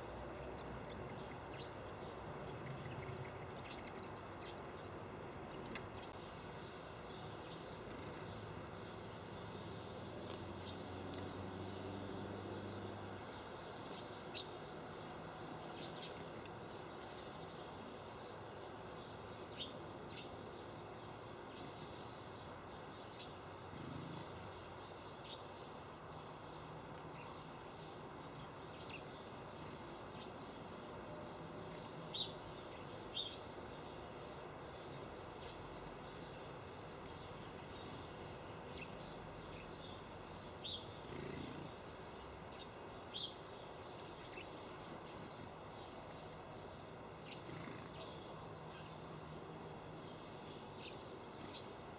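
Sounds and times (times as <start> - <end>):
small birds chirping: 0.0 - 51.9
steady background hiss: 0.0 - 51.9.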